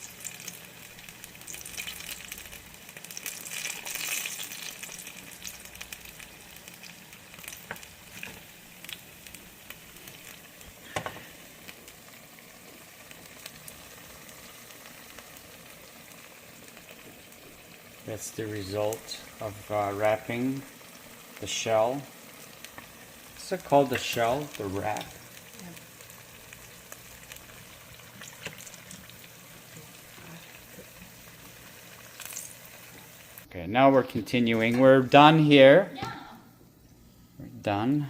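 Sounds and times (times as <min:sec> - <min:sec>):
spring rolls sizzling in hot oil: 0:00.0 - 0:33.5.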